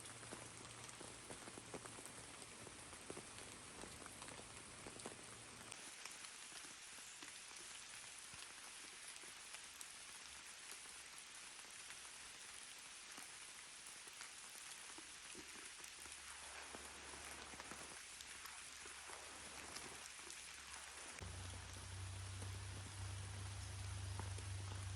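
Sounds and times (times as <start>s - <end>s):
faint rain falling: 0.0s - 24.9s.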